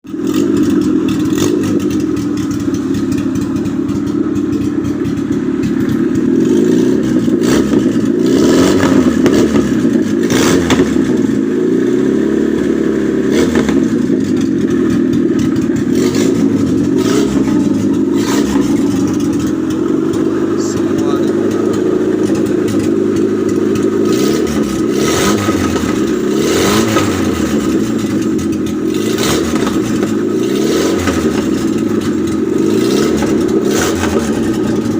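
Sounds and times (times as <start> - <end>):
petrol engine running: 0.0 - 34.9.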